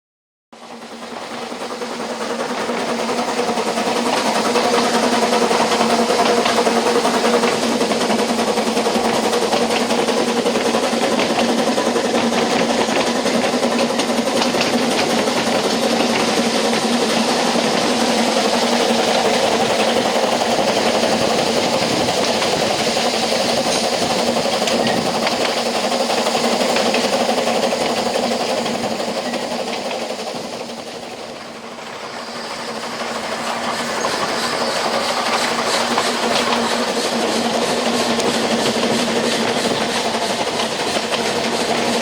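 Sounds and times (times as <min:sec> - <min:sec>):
wheel and rail rumble: 0:00.6 - 0:42.0
rail joints clacking: 0:00.8 - 0:42.0.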